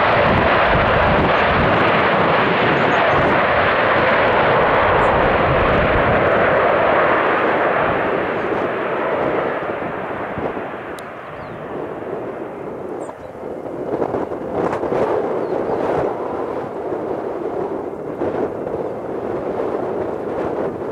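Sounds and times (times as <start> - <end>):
jet engine rushing: 0.0 - 20.9.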